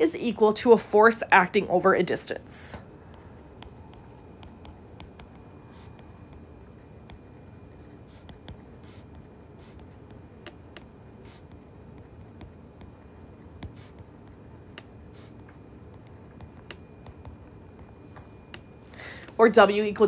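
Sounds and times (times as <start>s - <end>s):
faint room noise: 0.0s - 20.0s
stylus tapping and scratching on screen: 0.4s - 20.0s.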